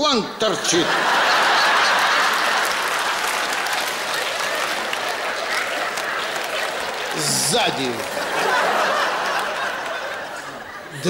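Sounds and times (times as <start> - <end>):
audience applauding: 0.6 - 11.0.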